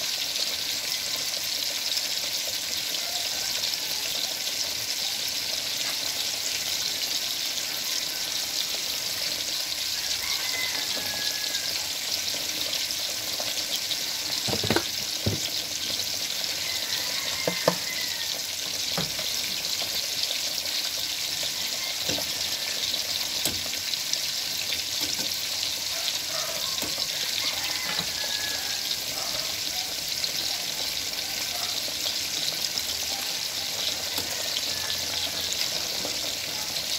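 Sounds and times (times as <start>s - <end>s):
pot sizzling on stove: 0.0s - 36.9s.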